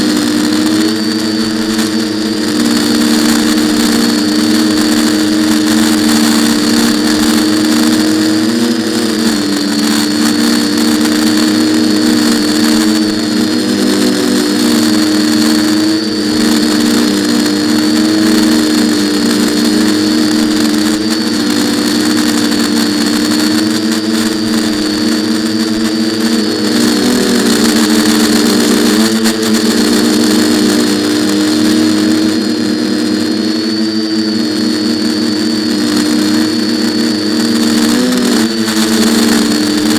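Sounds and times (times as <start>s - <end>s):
drone motors buzzing: 0.0s - 39.9s
thin high whine: 0.0s - 39.9s.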